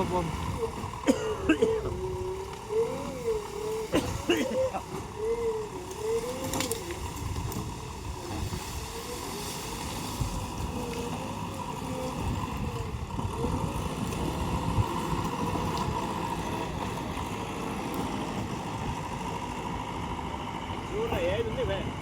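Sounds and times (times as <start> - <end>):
diesel engine working: 0.0 - 22.0
wind noise on microphone: 0.0 - 22.0.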